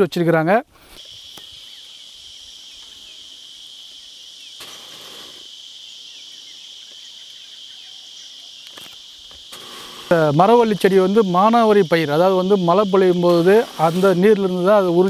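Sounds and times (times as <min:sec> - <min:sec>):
insect chorus shrilling: 0:00.4 - 0:15.0.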